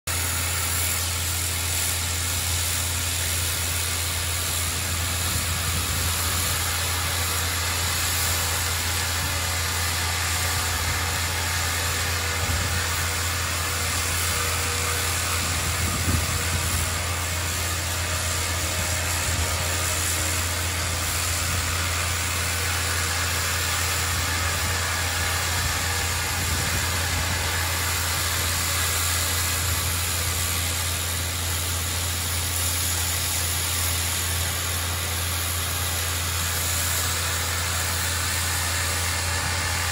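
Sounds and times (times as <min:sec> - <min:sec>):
low engine drone: 0:00.1 - 0:39.9
water jet hissing on steel: 0:00.1 - 0:39.9.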